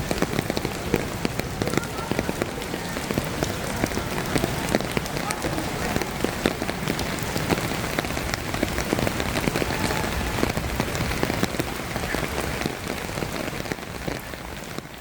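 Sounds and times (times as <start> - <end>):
steady rain patter: 0.0 - 15.0.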